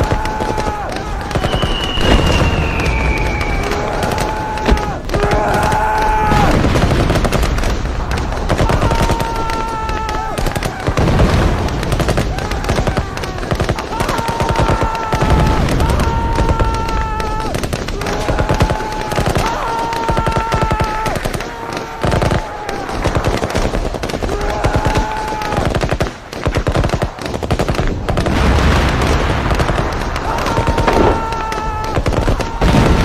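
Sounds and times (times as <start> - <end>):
machine-gun and rifle fire: 0.0 - 33.0.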